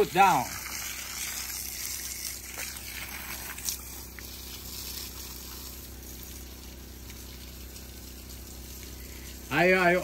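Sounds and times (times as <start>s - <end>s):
garden hose spraying water on soil: 0.0s - 10.0s.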